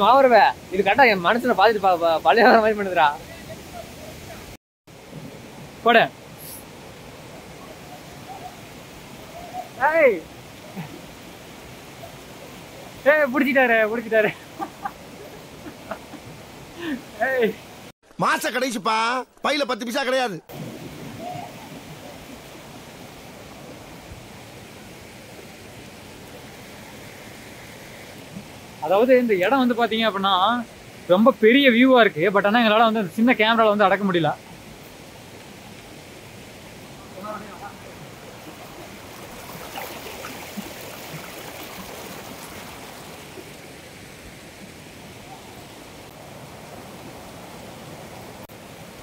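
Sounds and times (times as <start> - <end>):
river water rushing: 0.0 - 17.9, 20.5 - 49.0.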